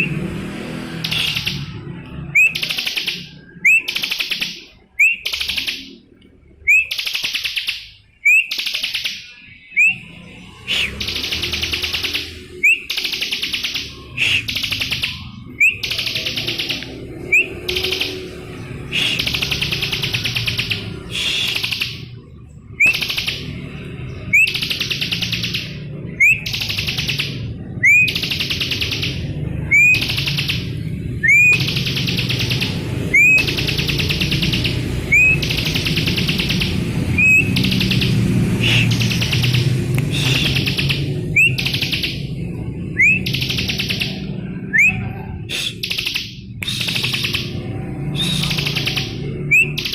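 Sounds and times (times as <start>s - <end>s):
bird singing trills: 1.0s - 49.9s.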